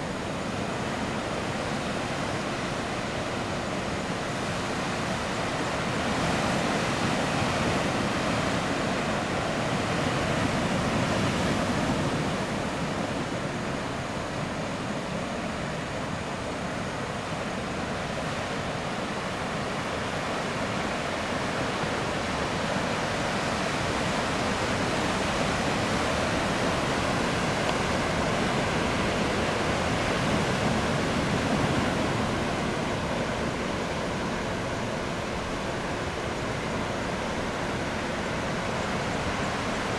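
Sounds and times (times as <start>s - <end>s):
heavy ocean surf roaring: 0.0s - 39.9s.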